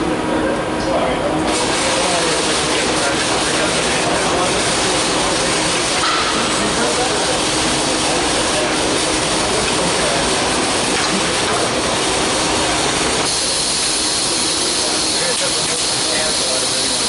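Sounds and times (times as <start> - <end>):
machine shop rushing noise: 1.4 - 17.0.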